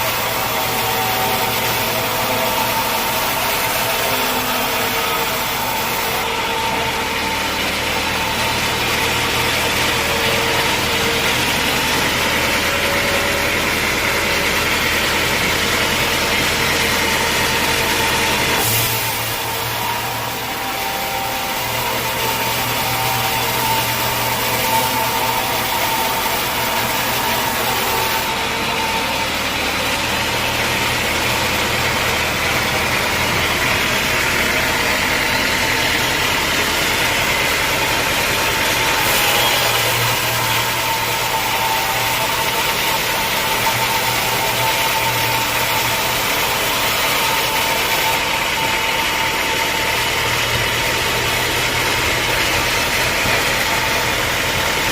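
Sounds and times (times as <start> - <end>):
sawmill machinery humming: 0.0 - 54.9
steady saw whine: 0.0 - 54.9.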